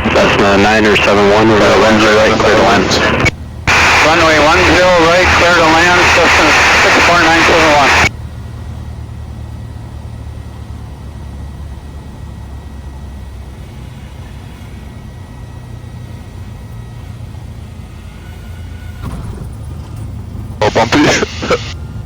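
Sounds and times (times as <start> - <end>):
aircraft engine low drone: 0.0 - 22.0.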